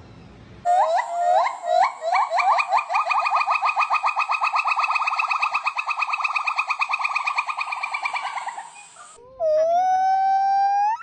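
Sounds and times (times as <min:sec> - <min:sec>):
high wailing call: 0:00.7 - 0:11.0
monkey trilling call: 0:00.7 - 0:11.0.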